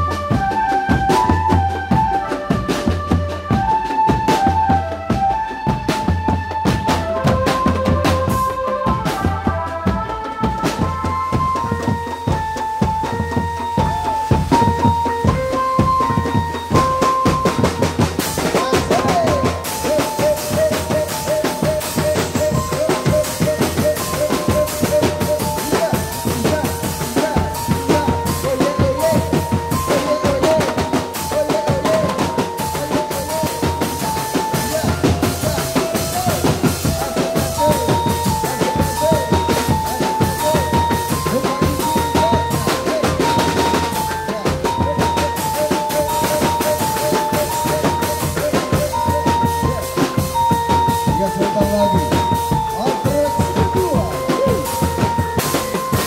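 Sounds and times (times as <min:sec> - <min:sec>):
bass drums and snare drums: 0:00.0 - 0:56.0
melody of held notes: 0:00.0 - 0:56.0.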